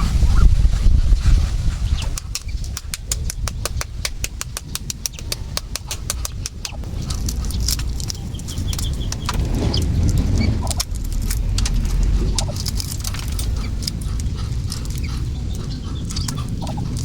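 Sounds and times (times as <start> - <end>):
duckling peeps: 0.0 - 10.9, 12.0 - 17.0
low rumble: 0.0 - 17.0
rapid sharp clicking: 2.0 - 17.0.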